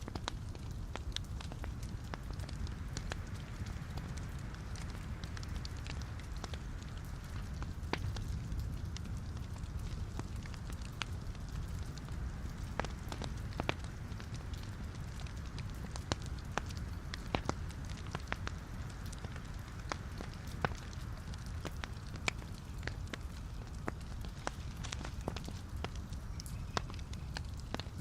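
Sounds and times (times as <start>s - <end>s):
burning logs crackling and popping: 0.0s - 28.0s
wood fire rumbling: 0.0s - 28.0s.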